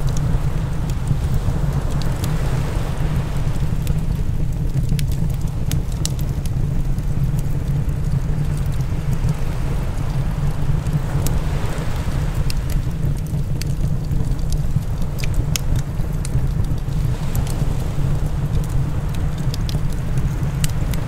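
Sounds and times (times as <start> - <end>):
fire crackling and popping: 0.0 - 21.0
low rumble: 0.0 - 21.0.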